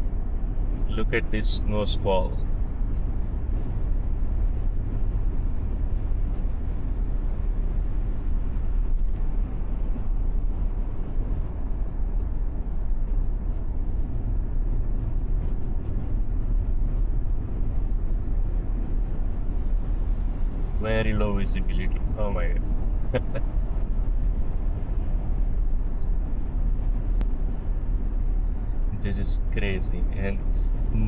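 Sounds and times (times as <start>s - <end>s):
car road noise from inside: 0.0s - 31.0s.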